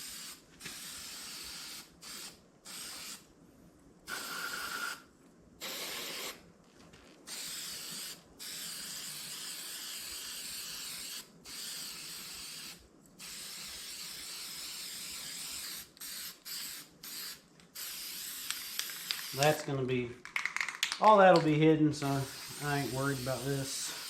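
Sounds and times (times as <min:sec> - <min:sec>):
spray paint can hissing: 0:00.0 - 0:03.3, 0:04.1 - 0:05.0, 0:05.6 - 0:06.4, 0:07.3 - 0:19.7, 0:22.0 - 0:24.0.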